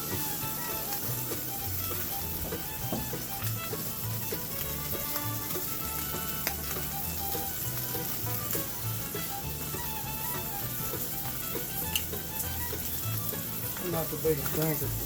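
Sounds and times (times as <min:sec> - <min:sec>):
background music: 0:00.0 - 0:15.0
fish sizzling in a pan: 0:00.0 - 0:15.0.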